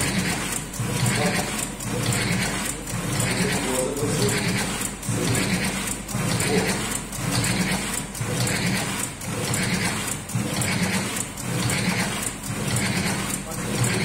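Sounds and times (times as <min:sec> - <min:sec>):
cigarette-rolling machine running: 0:00.0 - 0:14.0.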